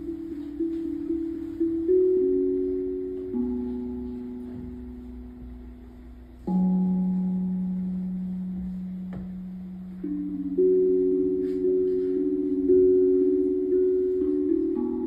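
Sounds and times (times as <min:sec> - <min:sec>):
steel tongue drum notes: 0:00.0 - 0:15.0.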